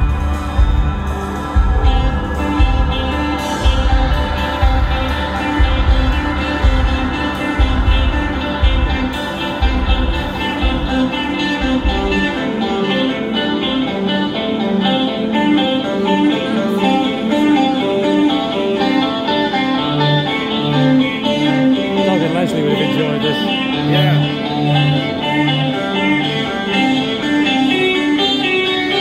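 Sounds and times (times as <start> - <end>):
bending lead guitar line: 0.0 - 29.0
rock band playing live: 0.0 - 29.0.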